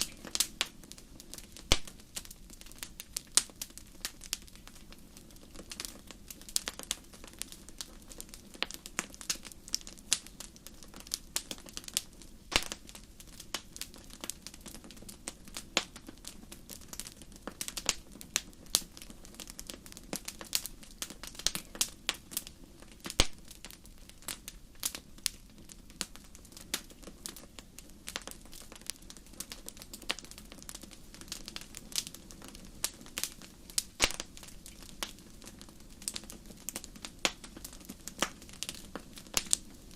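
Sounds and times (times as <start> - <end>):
low rumble of burning: 0.0 - 39.9
wood fire crackling: 0.0 - 39.9.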